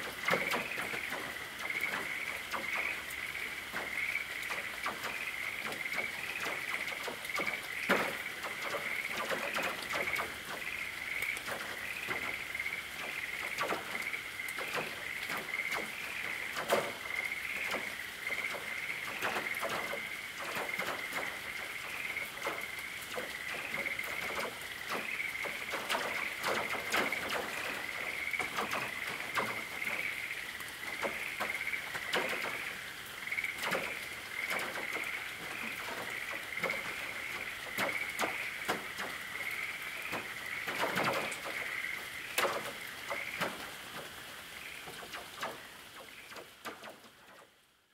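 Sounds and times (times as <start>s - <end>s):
rain dripping on a tin roof: 0.0s - 47.9s.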